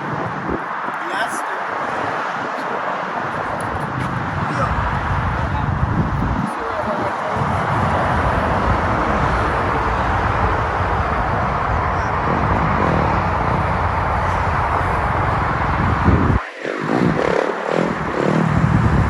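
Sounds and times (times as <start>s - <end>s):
road and wind noise: 0.0s - 19.0s
vehicle sound: 0.0s - 19.0s.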